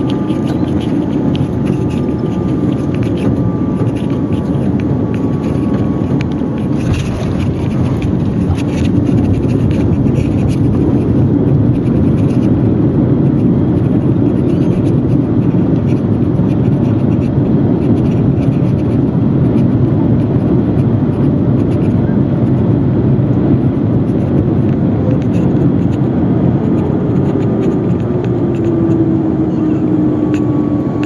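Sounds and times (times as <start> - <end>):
airliner cabin rumble: 0.0 - 31.0.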